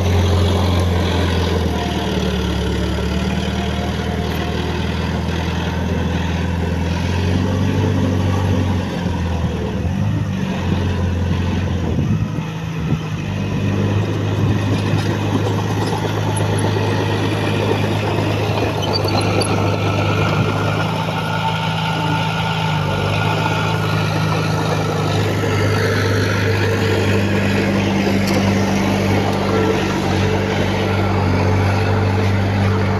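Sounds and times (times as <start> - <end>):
heavy machinery diesel engine running: 0.0 - 32.9.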